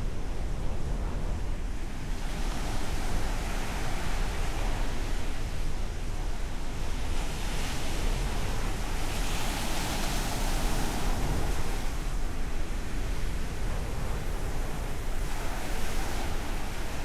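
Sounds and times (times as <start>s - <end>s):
ocean waves washing on beach: 0.0s - 17.0s.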